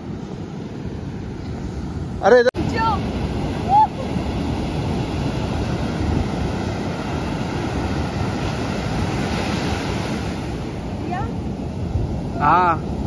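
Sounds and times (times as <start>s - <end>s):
surf washing up a beach: 0.0s - 13.0s
wind rumbling on microphone: 0.0s - 13.0s.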